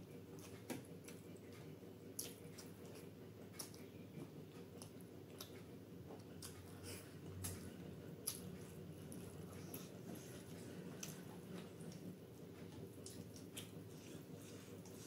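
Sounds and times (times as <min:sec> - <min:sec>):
chewing noises: 0:00.1 - 0:15.0.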